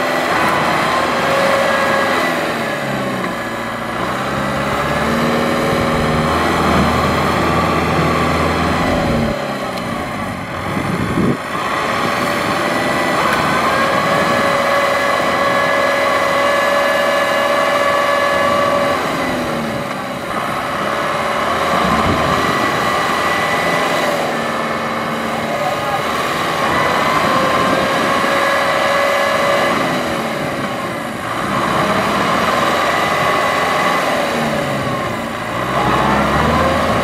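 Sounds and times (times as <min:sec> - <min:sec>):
tractor diesel engine straining: 0:00.0 - 0:37.0.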